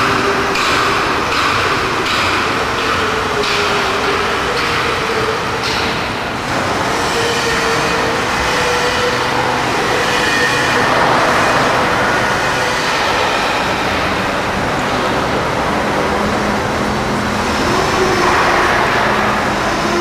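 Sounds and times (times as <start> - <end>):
dense mechanical din: 0.0 - 20.0.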